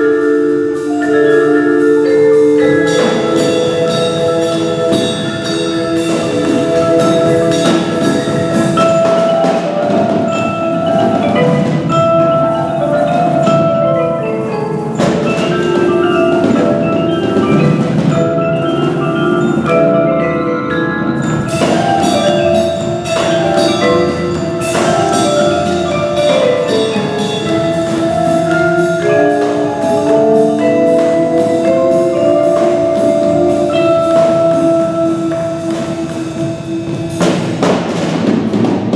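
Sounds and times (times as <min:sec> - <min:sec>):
percussion ensemble playing: 0:00.0 - 0:38.9.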